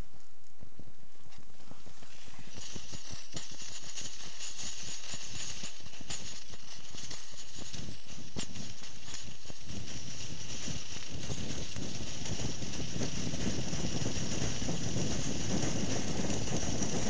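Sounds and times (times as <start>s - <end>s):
gas stove flame hissing: 2.1s - 17.0s.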